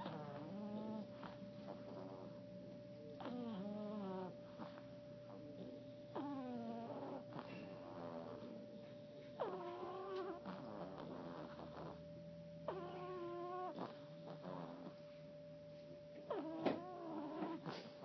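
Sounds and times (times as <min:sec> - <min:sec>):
dog snoring: 0:00.0 - 0:15.4, 0:16.1 - 0:18.0.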